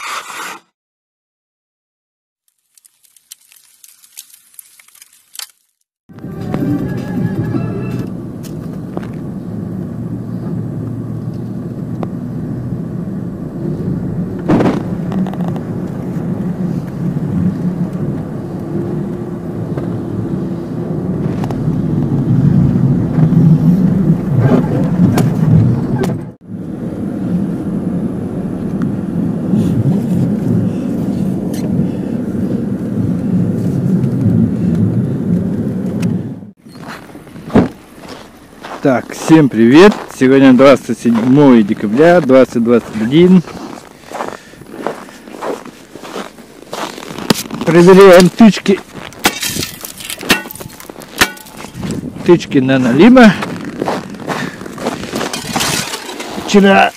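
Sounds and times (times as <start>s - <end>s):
car engine and road noise: 6.1s - 56.9s.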